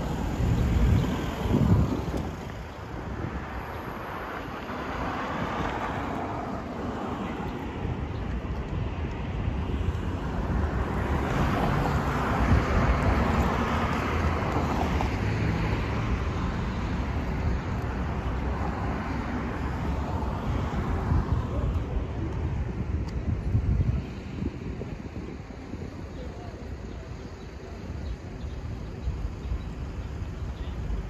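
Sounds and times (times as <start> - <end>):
cars driving past: 0.0 - 25.4
wind rumble on microphone: 0.0 - 31.0.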